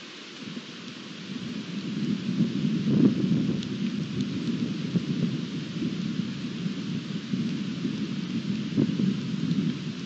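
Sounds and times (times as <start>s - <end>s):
rain hiss: 0.0s - 10.0s.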